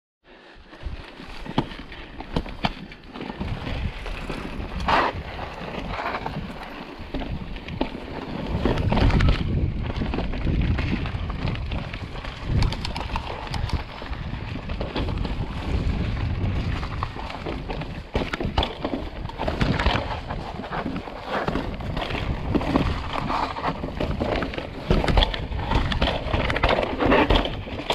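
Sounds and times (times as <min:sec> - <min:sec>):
bike tyres on dirt: 0:00.3 - 0:27.9
bike rattling over bumps: 0:00.7 - 0:27.9
wind rushing over microphone: 0:03.4 - 0:27.9.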